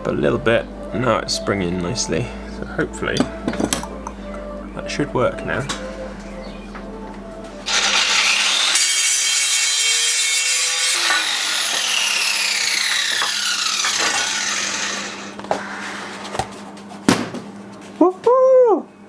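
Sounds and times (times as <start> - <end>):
angle grinder whining: 0.0 - 6.8, 7.6 - 16.3.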